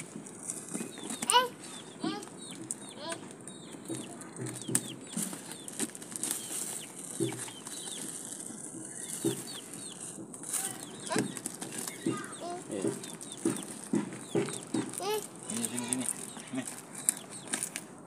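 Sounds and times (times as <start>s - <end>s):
bird clucking calls: 0.0s - 17.7s
birds chirping: 0.0s - 18.0s
hand tapping cardboard parcel: 0.0s - 18.0s.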